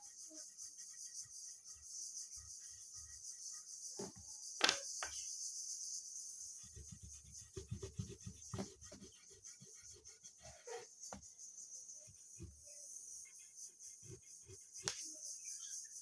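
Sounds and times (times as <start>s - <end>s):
scratchy colouring strokes: 0.0s - 15.7s.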